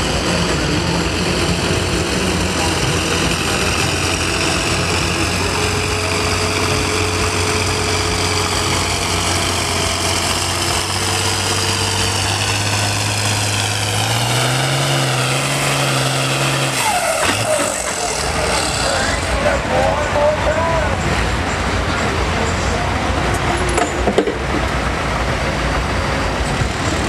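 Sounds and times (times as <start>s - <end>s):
tractor engine running hard: 0.0s - 27.0s.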